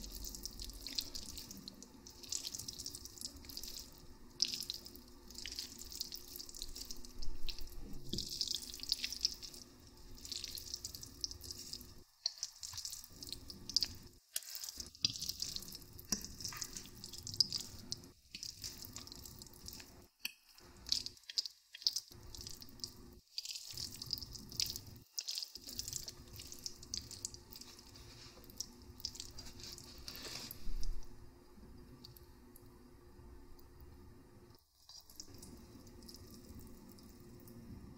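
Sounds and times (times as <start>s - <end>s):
wet chewing and slurping: 0.0s - 20.0s, 20.6s - 31.0s.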